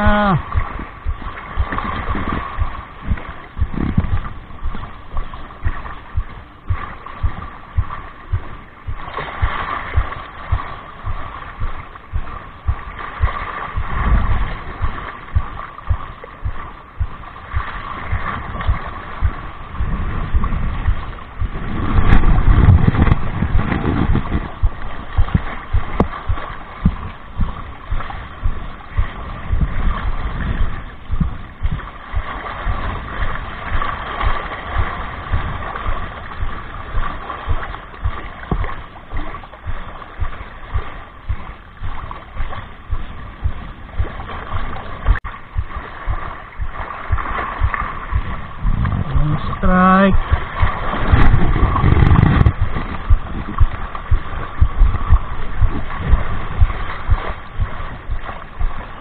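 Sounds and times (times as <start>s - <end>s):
faint steady hum: 0.0s - 59.0s
lapping water: 0.0s - 59.0s
wind buffeting microphone: 0.2s - 59.0s.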